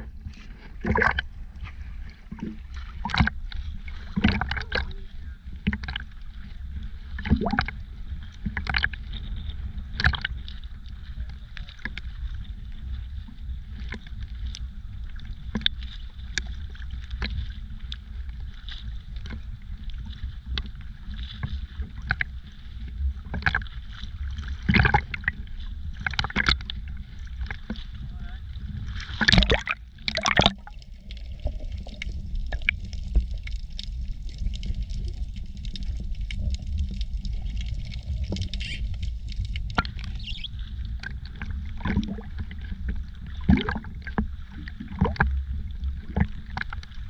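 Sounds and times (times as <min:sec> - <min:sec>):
small waves lapping and splashing: 0:00.0 - 0:47.0
steady low rumble: 0:00.0 - 0:47.0.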